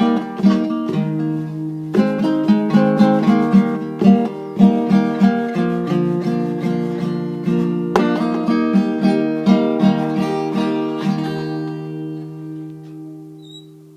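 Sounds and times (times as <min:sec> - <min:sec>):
acoustic guitar playing: 0:00.0 - 0:13.9.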